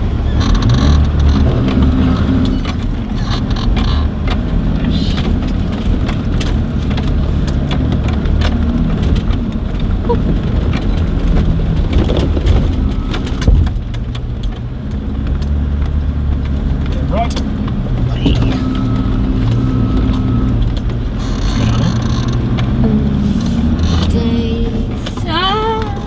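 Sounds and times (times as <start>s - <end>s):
knocks and rattles: 0.0s - 26.0s
vehicle engine running: 0.0s - 26.0s.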